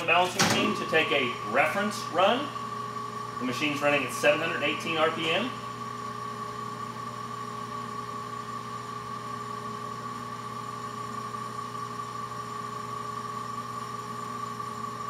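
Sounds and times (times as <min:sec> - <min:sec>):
balancing machine electric hum: 0:00.0 - 0:15.0.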